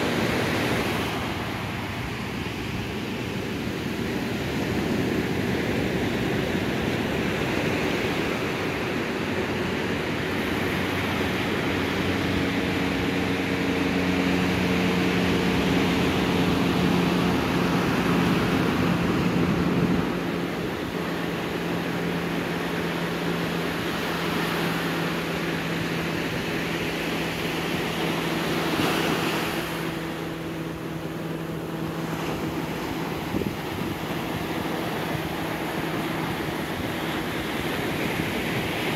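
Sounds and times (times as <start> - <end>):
small waves washing on sand: 0.0 - 38.9
steady low hum: 0.0 - 38.9.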